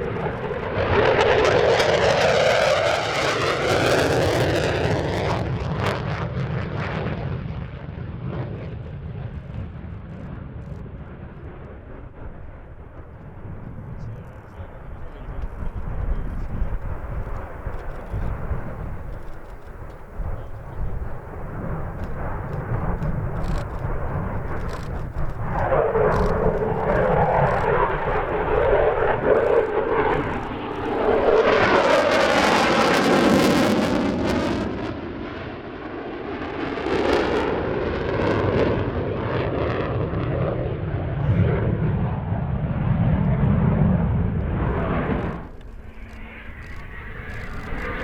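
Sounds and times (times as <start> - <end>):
jet fighter flying by: 0.0 - 48.0.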